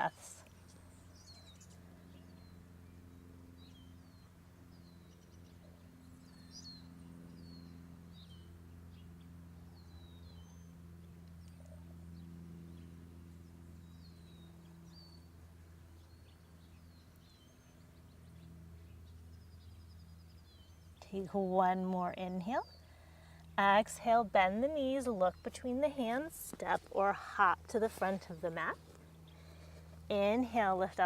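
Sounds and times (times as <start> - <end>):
faint birds chirping: 0.0 - 31.0
steady low hum: 0.0 - 31.0.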